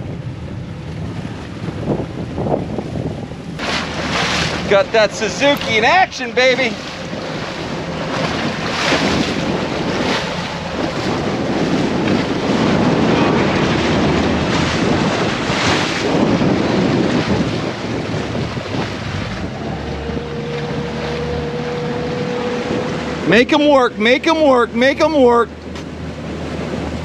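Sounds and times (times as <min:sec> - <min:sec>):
outboard motor running: 0:00.0 - 0:27.0
water splashing along hull: 0:00.0 - 0:27.0
wind rushing over microphone: 0:00.0 - 0:27.0.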